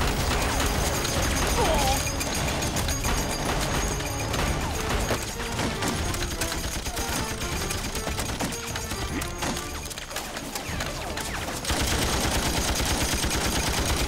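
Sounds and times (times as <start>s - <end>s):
dramatic background music: 0.0s - 14.0s
rapid gunfire: 0.0s - 14.0s.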